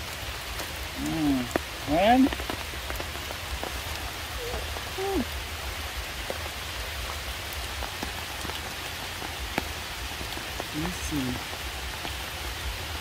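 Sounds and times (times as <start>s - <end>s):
steady rain on stone and leaves: 0.0s - 13.0s.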